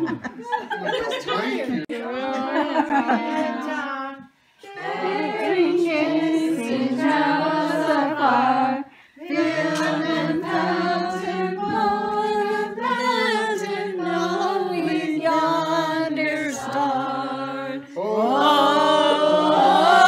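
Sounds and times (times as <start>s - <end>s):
people singing without accompaniment: 1.6s - 20.0s.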